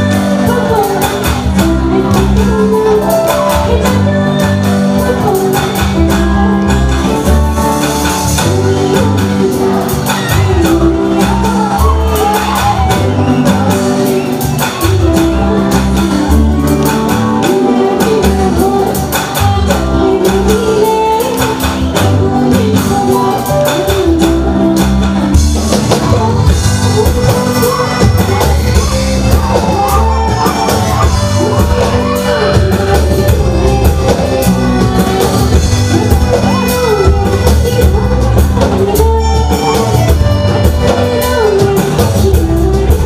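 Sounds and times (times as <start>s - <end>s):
drums: 0.0s - 43.0s
electric bass: 0.0s - 43.0s
woman singing: 0.0s - 43.0s.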